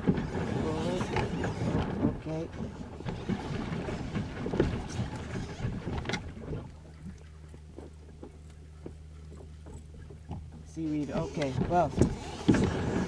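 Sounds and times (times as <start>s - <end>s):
water splashing against boat hull: 0.0s - 13.0s.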